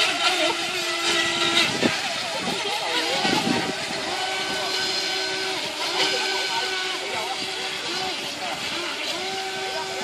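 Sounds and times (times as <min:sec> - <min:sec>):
model speedboat motors whining: 0:00.0 - 0:10.0.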